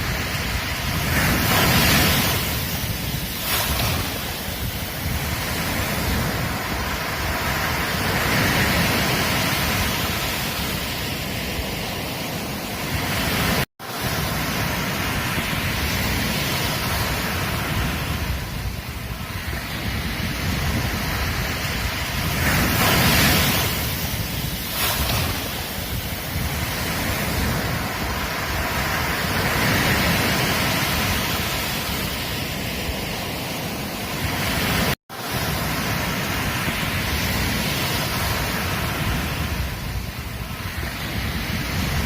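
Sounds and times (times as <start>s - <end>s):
ocean waves breaking on beach: 0.0s - 42.0s
wind rumbling on microphone: 0.0s - 42.0s.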